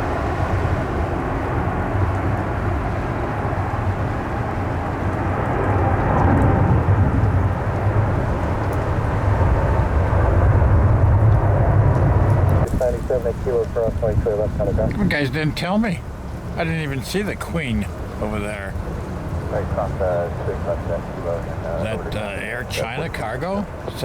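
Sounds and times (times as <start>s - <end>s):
jet engine roar: 0.0s - 24.0s
wind buffeting microphone: 0.0s - 24.0s.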